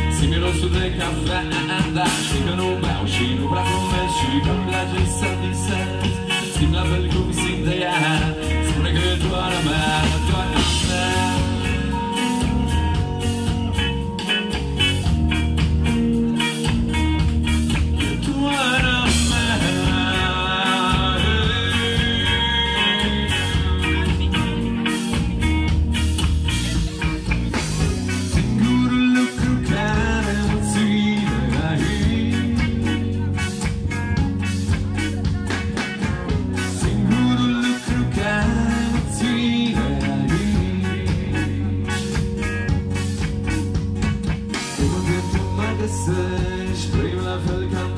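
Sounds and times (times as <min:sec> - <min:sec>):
drum kit beat: 0:00.0 - 0:47.9
electric guitars: 0:00.0 - 0:47.9.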